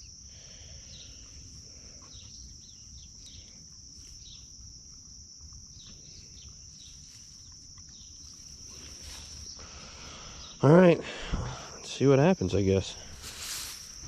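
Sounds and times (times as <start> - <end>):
birds chirping: 0.0 - 4.9, 5.5 - 13.2
insects droning: 0.0 - 14.0.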